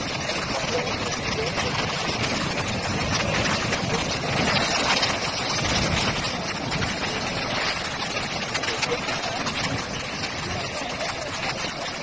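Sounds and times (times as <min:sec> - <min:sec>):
heavy surf roaring against rocks: 0:00.0 - 0:12.0
whitewater rushing: 0:00.0 - 0:12.0.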